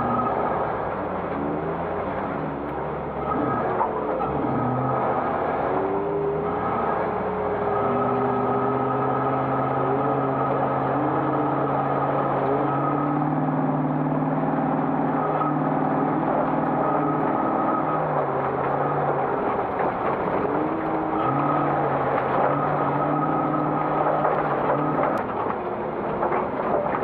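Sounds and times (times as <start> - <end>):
engine running hard: 0.0 - 27.0.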